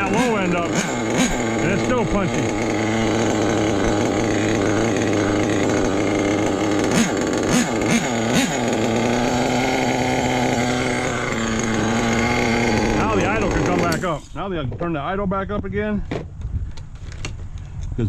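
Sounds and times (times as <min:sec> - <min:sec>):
small model engine idling: 0:00.0 - 0:14.5
engine throttle blips: 0:00.0 - 0:15.2.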